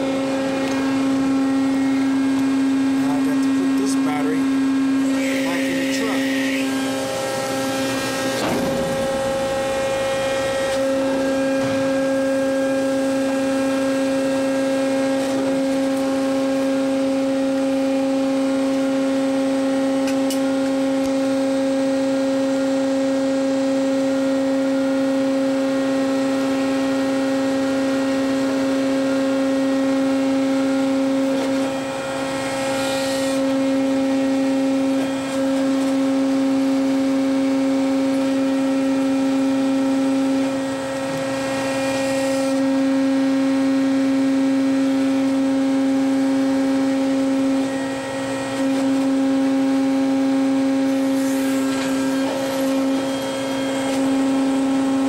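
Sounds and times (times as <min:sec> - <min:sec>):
electric motor humming: 0:00.0 - 0:55.0.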